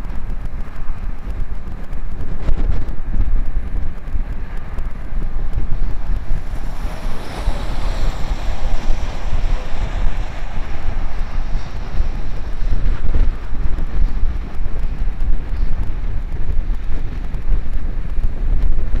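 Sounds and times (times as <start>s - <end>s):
passing car tyre noise: 0.0s - 19.0s
wind buffeting microphone: 0.0s - 19.0s.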